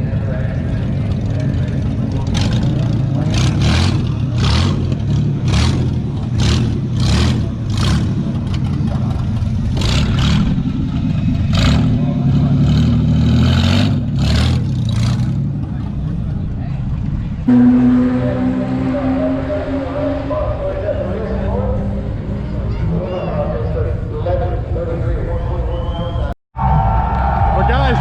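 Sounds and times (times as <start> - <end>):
car engine running: 0.0 - 22.8.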